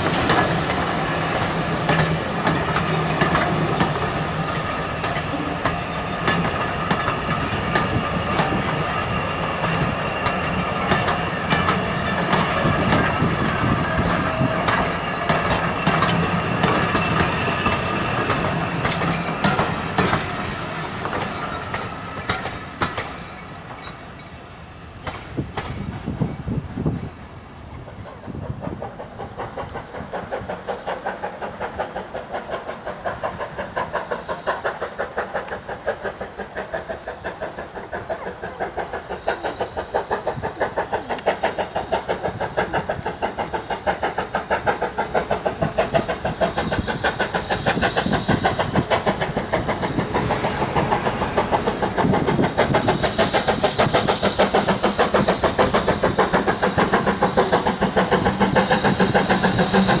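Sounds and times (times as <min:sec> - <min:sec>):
steam hiss: 0:00.0 - 1:00.0
steam locomotive exhaust beating: 0:00.0 - 1:00.0.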